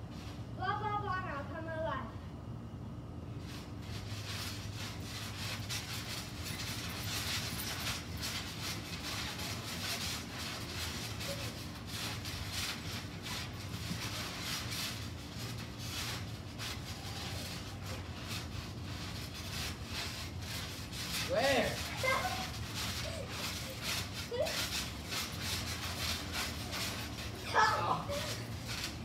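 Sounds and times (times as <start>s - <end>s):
thumps and rustles of trampoline mat: 3.4s - 29.0s.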